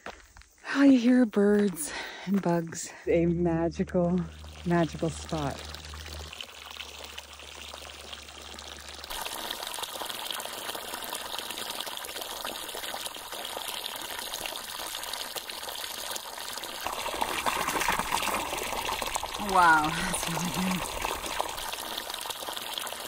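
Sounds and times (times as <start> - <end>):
water splashing into trough: 4.3 - 23.0.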